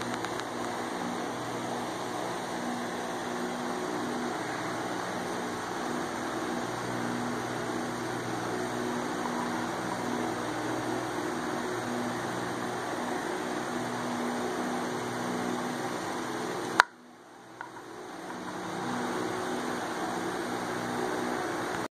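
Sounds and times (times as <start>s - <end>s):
machine hum with low drone: 0.0s - 21.9s.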